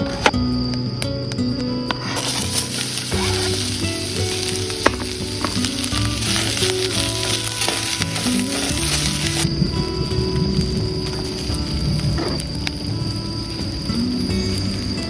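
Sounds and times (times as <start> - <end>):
background music: 0.0 - 15.0
oil popping: 0.0 - 15.0
food sizzling in hot oil: 2.0 - 15.0.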